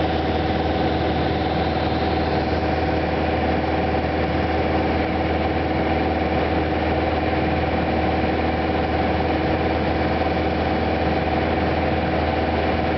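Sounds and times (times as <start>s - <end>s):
small plane engine drone in cabin: 0.0s - 12.9s.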